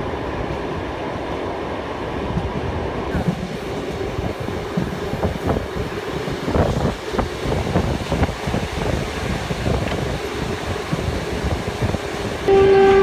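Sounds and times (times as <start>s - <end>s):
train clattering and rattling: 0.0s - 13.0s
train wheels rumbling on rails: 0.0s - 13.0s.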